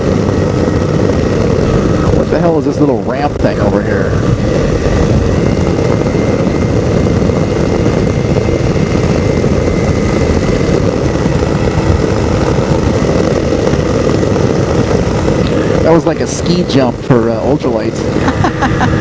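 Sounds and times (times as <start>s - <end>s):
aircraft engine and propeller: 0.0s - 19.0s.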